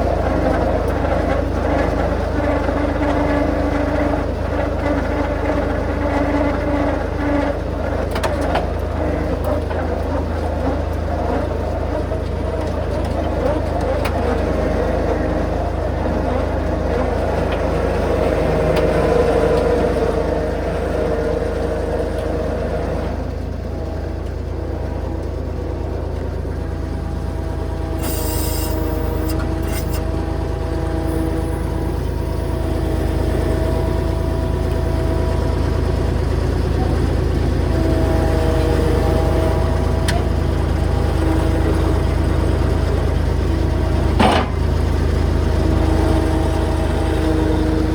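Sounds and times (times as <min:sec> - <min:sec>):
vehicle engine and road drone: 0:00.0 - 0:47.9.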